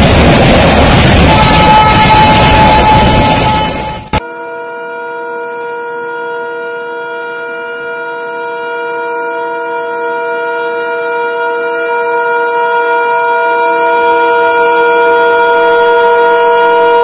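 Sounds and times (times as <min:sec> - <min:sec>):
locomotive horn long blast: 0:00.9 - 0:17.0.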